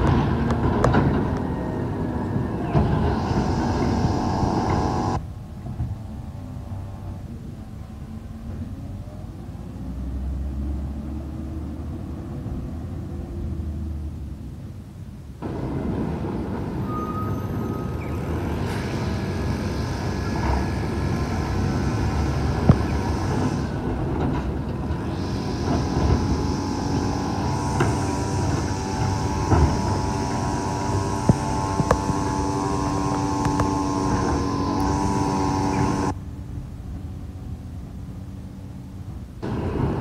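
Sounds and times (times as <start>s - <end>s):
hydraulics whining: 0.0s - 9.4s, 15.4s - 40.0s
diesel engine running: 0.0s - 11.2s, 14.4s - 40.0s.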